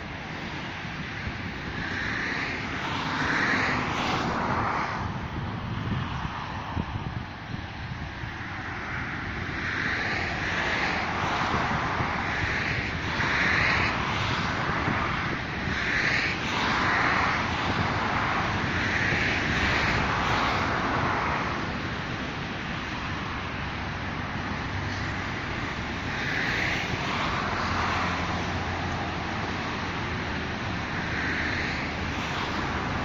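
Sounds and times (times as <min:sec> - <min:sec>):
outdoor rushing noise: 0:00.0 - 0:33.0.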